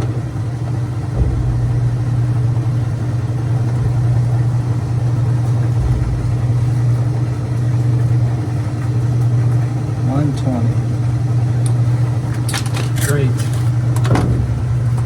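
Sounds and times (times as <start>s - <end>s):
drain pump humming: 0.0s - 15.0s.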